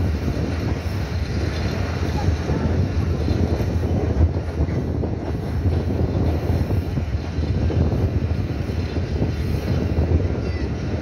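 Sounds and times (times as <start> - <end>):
train rumbling: 0.0 - 11.0
wind buffeting microphone: 0.0 - 11.0.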